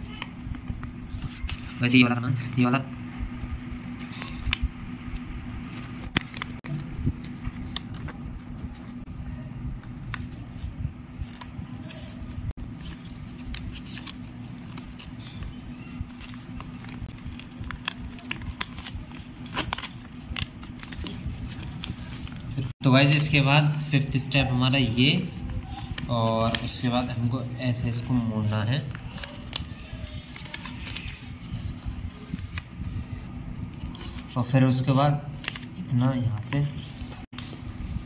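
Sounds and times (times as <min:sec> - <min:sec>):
paper rustling and crackling: 0:00.0 - 0:22.8, 0:24.8 - 0:38.0
steady low hum: 0:00.0 - 0:38.0.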